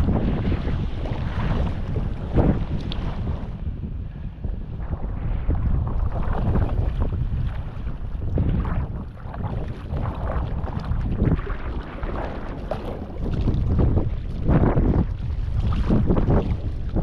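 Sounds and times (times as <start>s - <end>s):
water splashing around kayak: 0.0s - 4.2s, 5.0s - 17.0s
wind rumbling on microphone: 0.0s - 17.0s.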